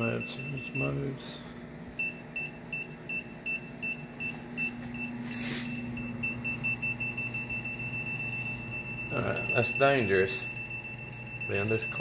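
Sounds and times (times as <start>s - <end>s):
meter alarm beeping: 0.0s - 12.0s
microwave oven humming: 0.0s - 12.0s.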